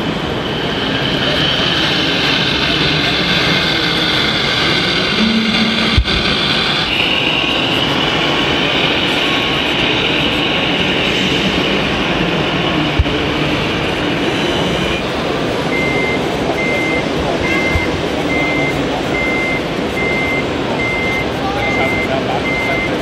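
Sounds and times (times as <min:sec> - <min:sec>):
exhibition hall crowd noise: 0:00.0 - 0:23.0.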